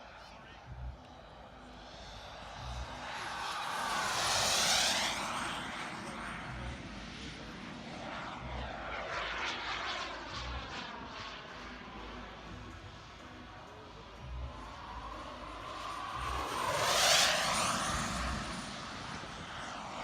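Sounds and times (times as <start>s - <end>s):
high turbine whine: 0.0s - 20.0s
model jet flying past: 1.0s - 20.0s.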